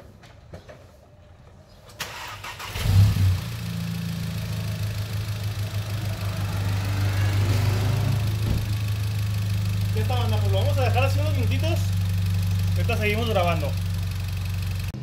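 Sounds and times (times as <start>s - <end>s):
car engine starting and idling: 1.9s - 15.0s.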